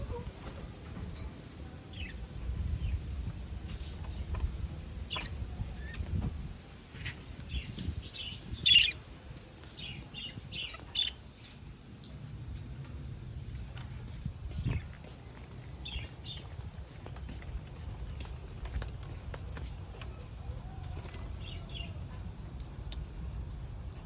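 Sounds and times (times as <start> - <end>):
birds chirping and twittering: 0.0 - 23.1
low steady rumble: 0.0 - 24.0.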